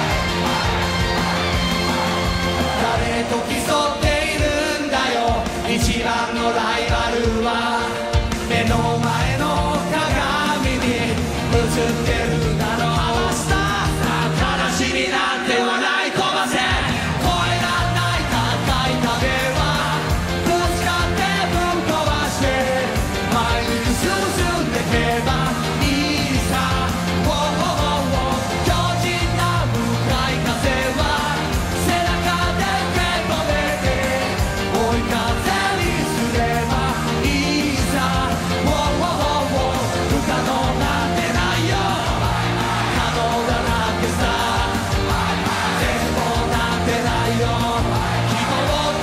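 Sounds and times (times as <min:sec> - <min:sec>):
steady drum beat: 0:00.0 - 0:15.0, 0:16.5 - 0:49.0
live pop-rock band: 0:00.0 - 0:49.0
man singing: 0:02.6 - 0:49.0.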